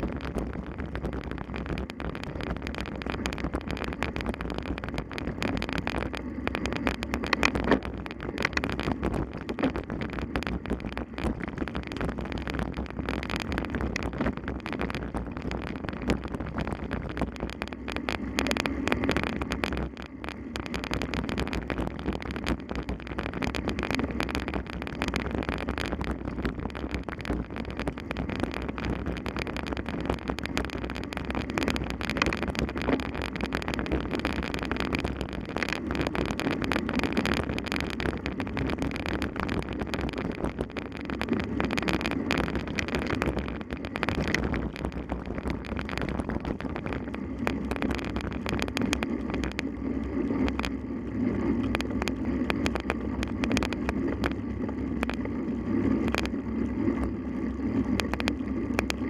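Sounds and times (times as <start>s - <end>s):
bicycle tyres rumbling: 0.0s - 59.0s
wind on microphone: 0.0s - 59.0s.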